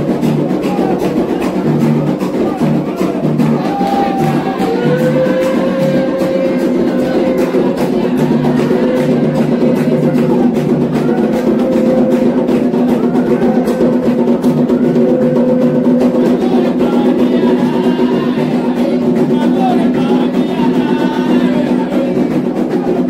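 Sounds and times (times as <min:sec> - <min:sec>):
hand drums playing fast rhythm: 0:00.0 - 0:23.0
people singing: 0:00.0 - 0:23.0.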